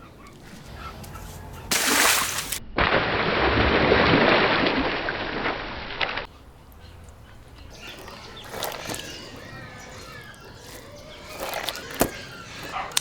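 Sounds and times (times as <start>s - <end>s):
water splashing out: 1.2s - 6.3s, 6.9s - 13.0s.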